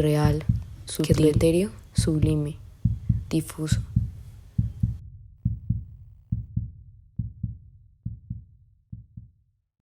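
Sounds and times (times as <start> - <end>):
heartbeat thumps: 0.0 - 9.4.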